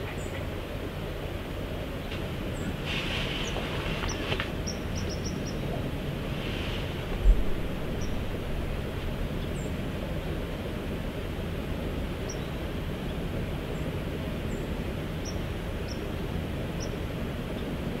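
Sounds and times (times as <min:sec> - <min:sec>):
rushing outdoor background noise: 0:00.0 - 0:18.0.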